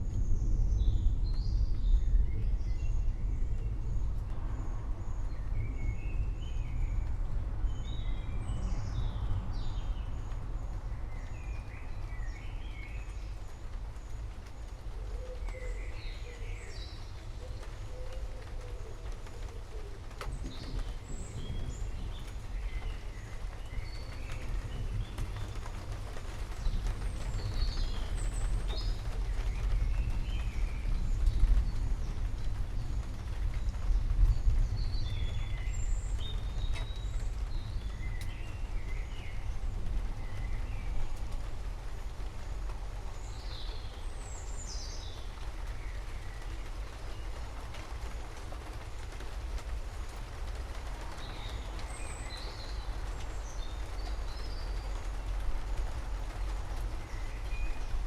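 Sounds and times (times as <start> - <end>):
forest birds chirping: 0.0 - 58.0
low rumble and soft hiss: 0.0 - 58.0.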